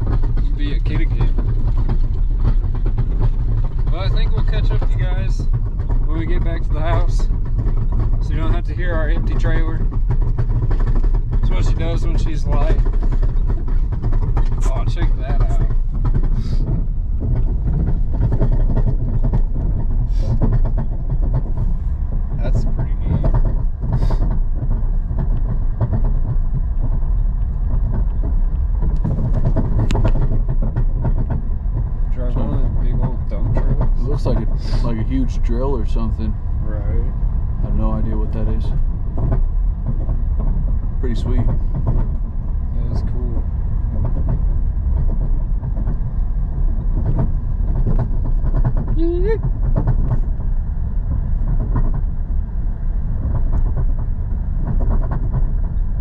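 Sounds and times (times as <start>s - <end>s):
empty trailer rattling and clanking: 0.0s - 50.3s
low road rumble: 0.0s - 56.0s.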